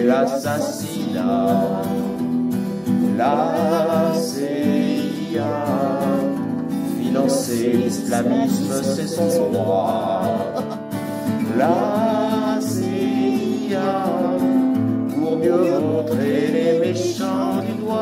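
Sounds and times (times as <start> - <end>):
guitar accompaniment: 0.0 - 18.0
two men singing: 0.0 - 18.0.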